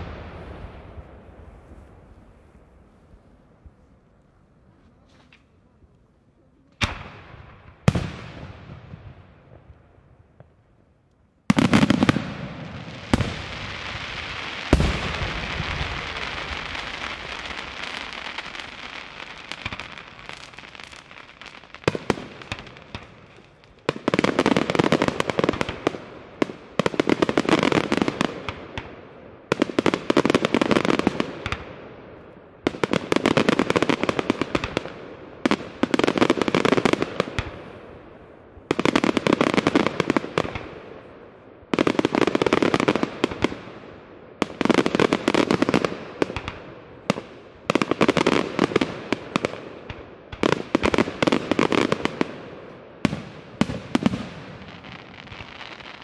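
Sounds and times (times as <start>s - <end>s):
fireworks crackling pops: 0.0s - 31.8s, 38.6s - 40.9s, 44.4s - 56.0s.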